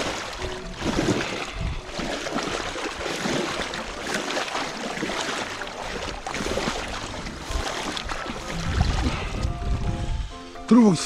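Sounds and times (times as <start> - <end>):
shallow water splashing: 0.0 - 10.4.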